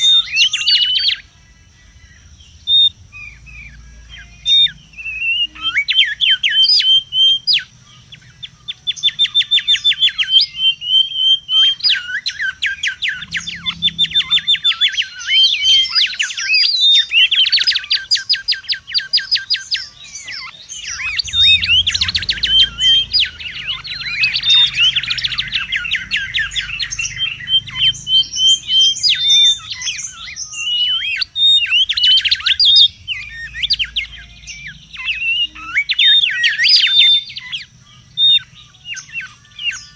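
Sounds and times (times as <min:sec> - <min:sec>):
birds whistling and trilling: 0:00.0 - 0:39.9.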